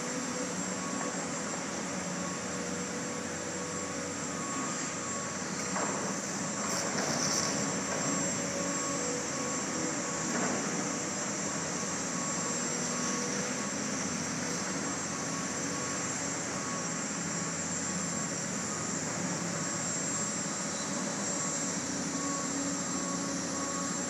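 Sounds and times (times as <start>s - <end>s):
excavator diesel engines running: 0.0s - 24.0s.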